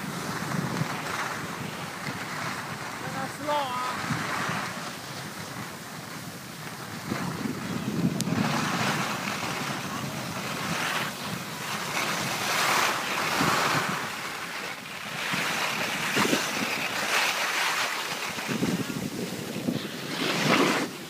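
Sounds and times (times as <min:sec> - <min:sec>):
skis hissing over snow: 0:00.0 - 0:21.0
wind rushing over microphone: 0:00.0 - 0:21.0.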